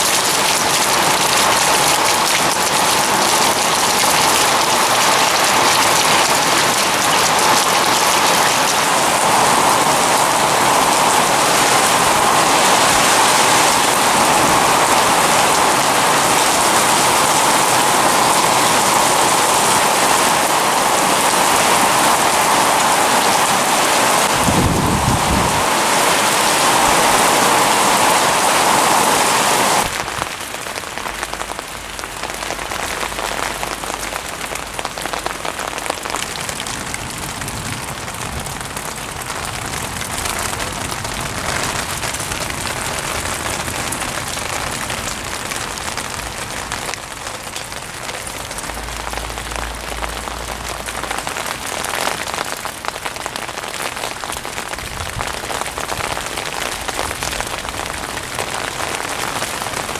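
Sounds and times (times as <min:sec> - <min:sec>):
heavy rain on water: 0:00.0 - 0:59.9.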